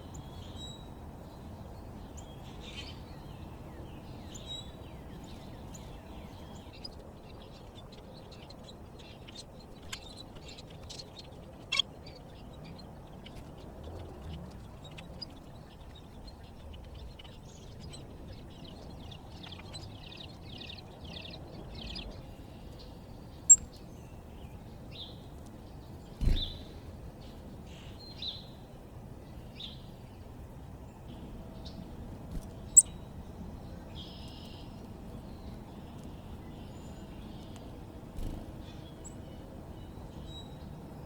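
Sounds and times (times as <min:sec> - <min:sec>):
birds chirping: 0:00.0 - 0:41.0
low outdoor noise: 0:00.0 - 0:41.0.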